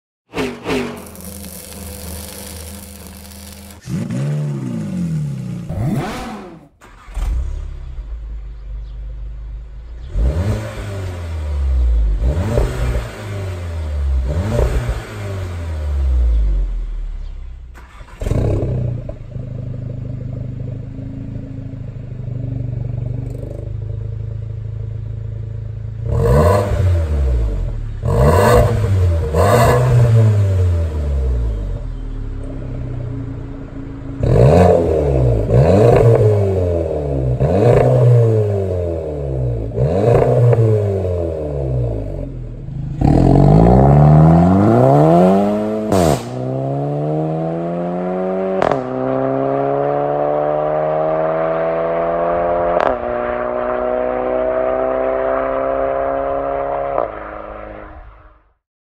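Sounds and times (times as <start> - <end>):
car engine idling and revving: 0.3 - 58.5.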